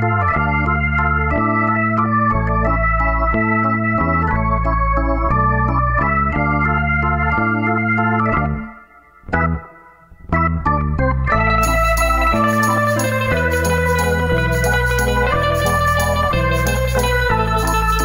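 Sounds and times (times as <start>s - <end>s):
organ-like keyboard chords: 0.0s - 18.0s.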